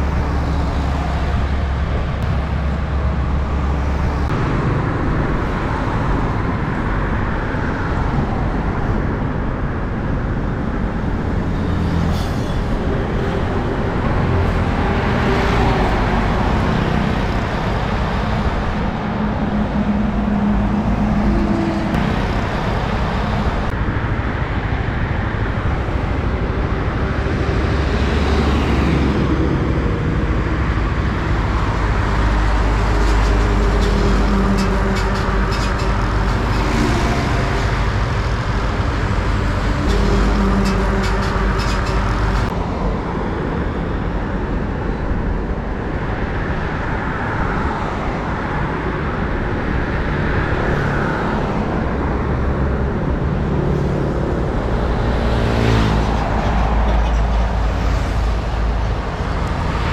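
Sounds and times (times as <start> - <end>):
traffic driving by: 0.0 - 59.9.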